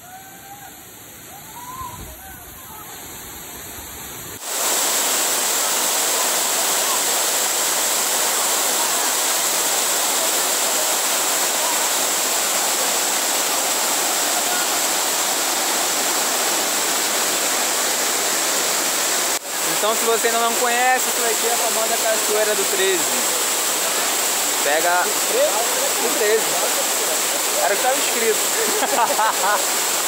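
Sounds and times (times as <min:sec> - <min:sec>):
waterfall rushing: 0:00.6 - 0:30.0.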